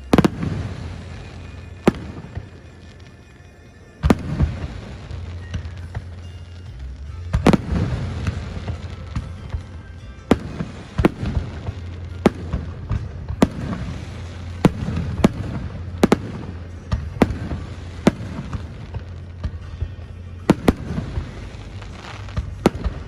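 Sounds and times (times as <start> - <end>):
fireworks bangs: 0.0 - 23.0
music playing: 0.0 - 23.0.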